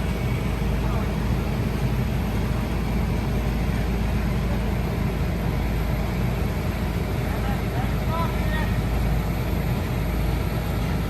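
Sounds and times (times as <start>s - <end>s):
large engine droning: 0.0s - 11.0s.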